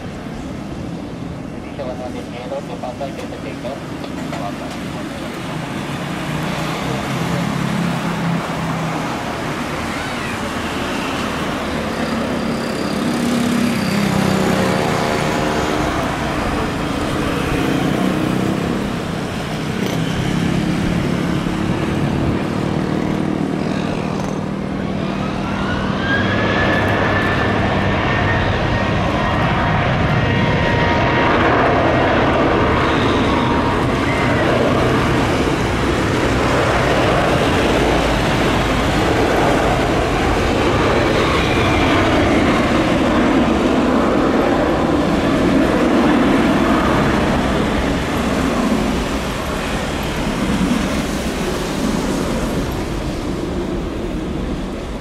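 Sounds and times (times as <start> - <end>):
jet engine whine: 0.0 - 55.0
jet engines roaring: 0.0 - 55.0.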